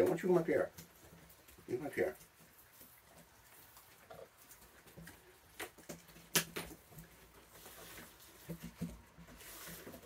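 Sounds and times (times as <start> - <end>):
raccoons feeding clicks and knocks: 0.0 - 10.0.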